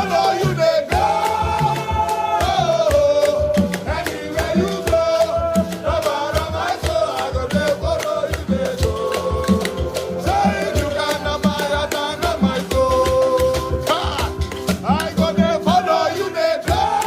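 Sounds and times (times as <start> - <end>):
gospel worship music: 0.0 - 17.0.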